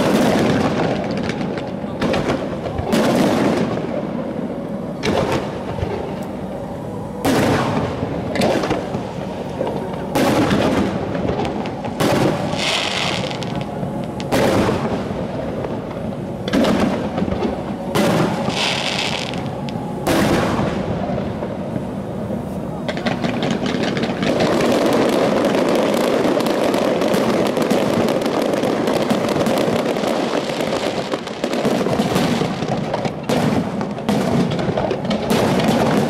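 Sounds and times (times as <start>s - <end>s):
fireworks booming: 0.0s - 36.0s.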